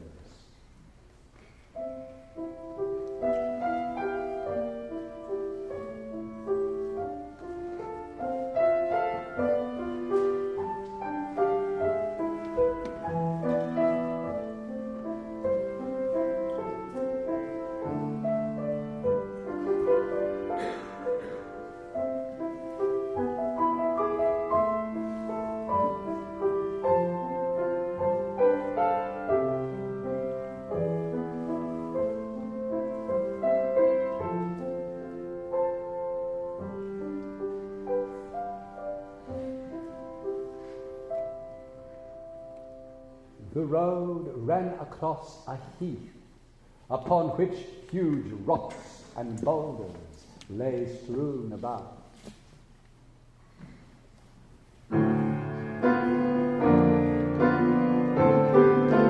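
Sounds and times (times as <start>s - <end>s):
solo piano music: 1.7s - 44.8s, 54.8s - 59.0s.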